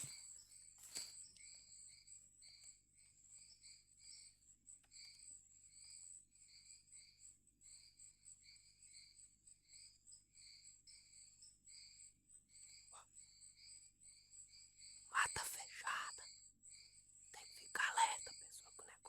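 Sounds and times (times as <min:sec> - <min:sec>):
insects buzzing and chirping: 0:00.0 - 0:19.0.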